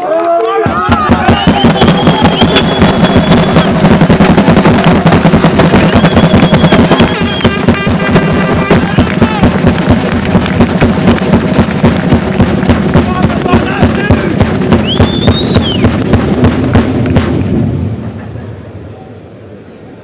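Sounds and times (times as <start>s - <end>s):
loud music with fast beat: 0.7s - 16.8s.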